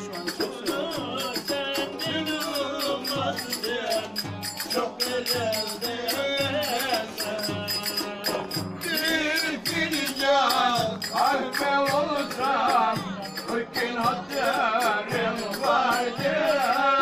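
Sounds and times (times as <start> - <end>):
clicking percussion: 0.0 - 17.0.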